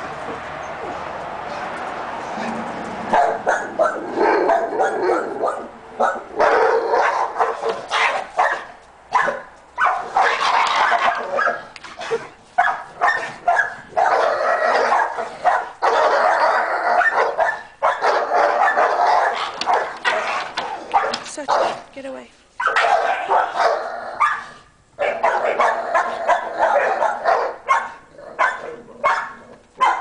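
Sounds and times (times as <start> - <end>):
dogs barking and whining: 0.1 - 21.9, 22.6 - 30.0.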